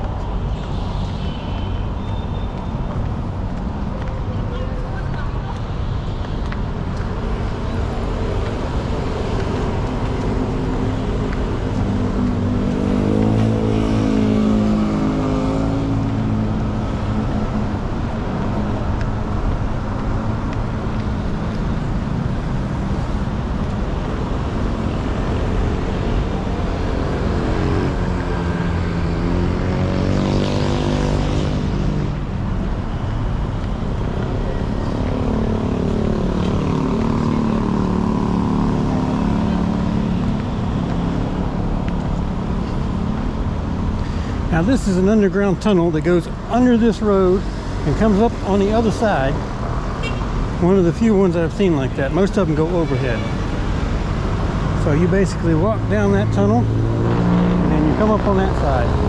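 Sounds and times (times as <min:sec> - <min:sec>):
road traffic rumble: 0:00.0 - 0:59.0
vehicle engines passing close: 0:02.3 - 0:59.0.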